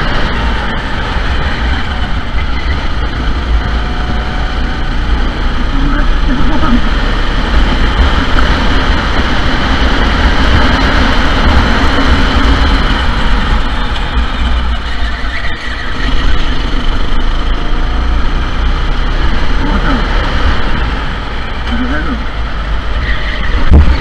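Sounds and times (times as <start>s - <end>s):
go-kart engines droning: 0.0s - 24.0s.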